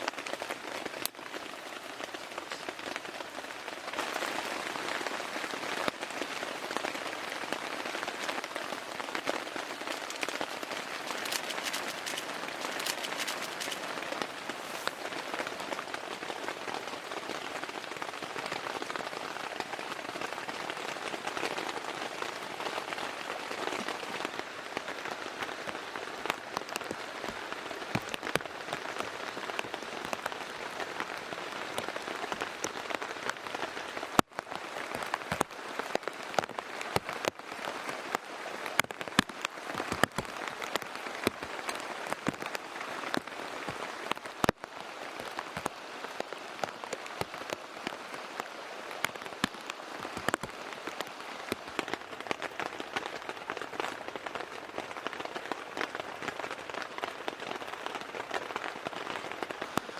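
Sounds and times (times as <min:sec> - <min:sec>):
raindrops ticking on a surface: 0:00.0 - 0:59.9
steady rain: 0:00.0 - 0:59.9.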